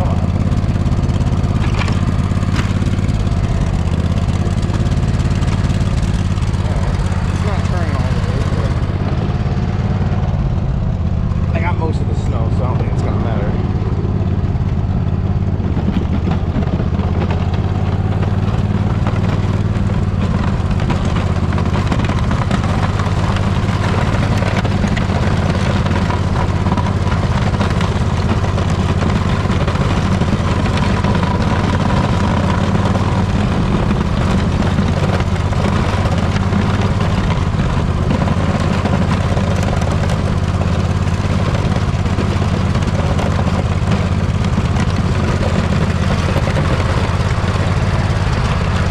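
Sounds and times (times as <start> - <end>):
riding mower engine running: 0.0 - 48.9.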